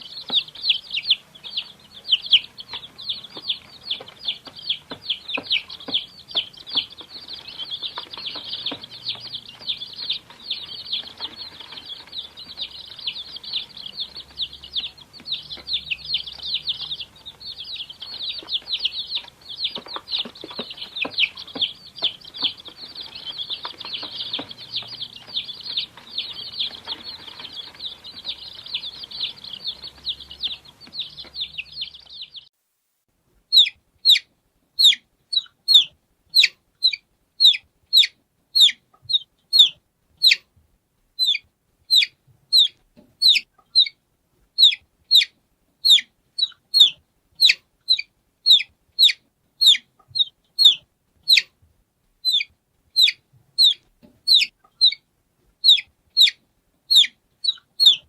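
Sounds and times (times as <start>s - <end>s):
chicks peeping in chorus: 0.0s - 32.5s, 33.5s - 40.5s, 41.2s - 51.6s, 52.2s - 58.0s
single chick peeping loudly: 0.0s - 32.5s, 33.5s - 40.5s, 41.2s - 51.6s, 52.2s - 58.0s.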